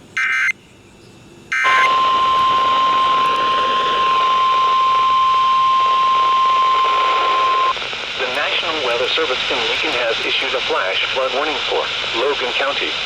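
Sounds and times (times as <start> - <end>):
warbling data bursts: 1.5 - 12.6
radio static: 1.5 - 13.0.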